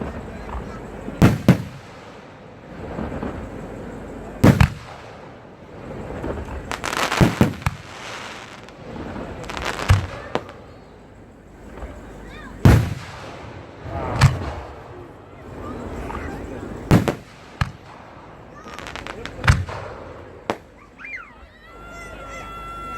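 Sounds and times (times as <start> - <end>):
firework booms: 0.0 - 10.7, 11.7 - 20.9
crackling firework bangs: 0.0 - 21.0.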